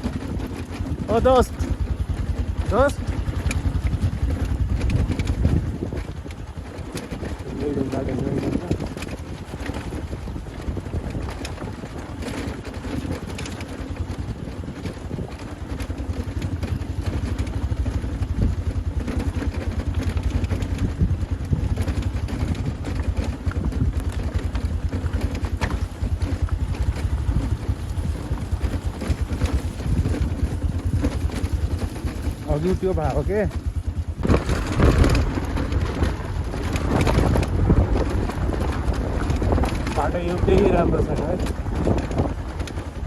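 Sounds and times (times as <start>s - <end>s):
knocks and rattles: 0.0s - 43.0s
motorcycle engine running: 0.0s - 43.0s
wind noise on microphone: 0.0s - 43.0s.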